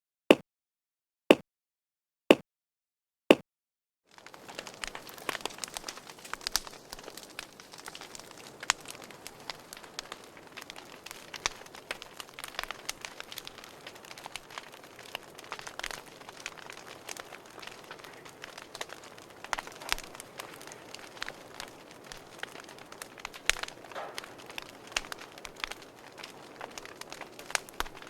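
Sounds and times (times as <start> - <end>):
crackling and snapping clicks: 4.1 - 28.0.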